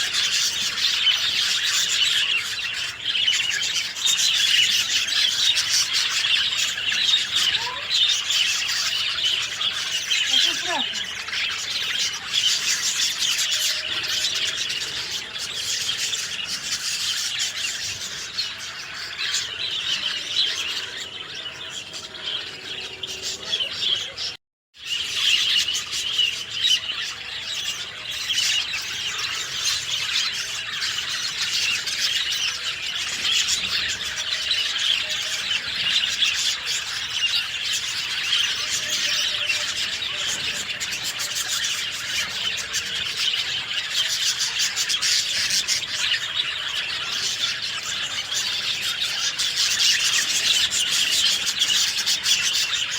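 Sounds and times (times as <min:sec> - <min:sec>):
songbirds chirping: 0:00.0 - 0:52.9.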